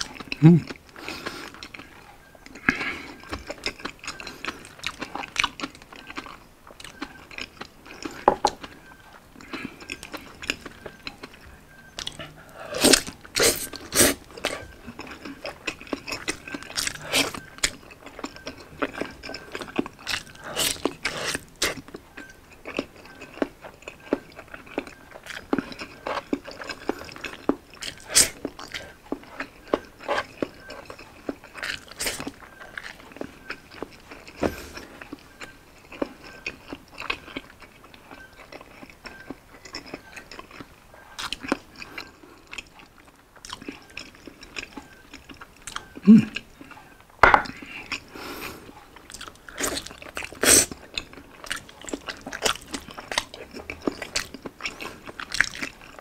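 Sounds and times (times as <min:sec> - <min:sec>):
biting and chewing meat: 0:00.0 - 0:56.0.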